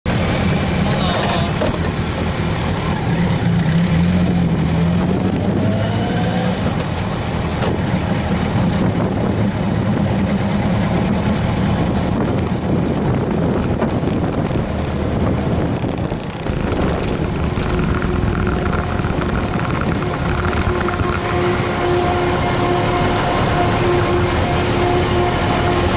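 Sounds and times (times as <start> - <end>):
road noise: 0.1 - 25.9
vehicle engine running: 0.1 - 25.9.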